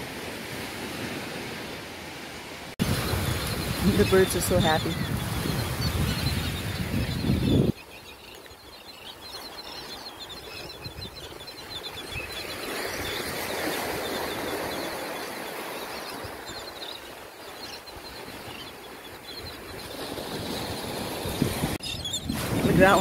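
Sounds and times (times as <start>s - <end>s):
surf washing: 0.0s - 23.0s
shorebirds chirping: 2.8s - 23.0s.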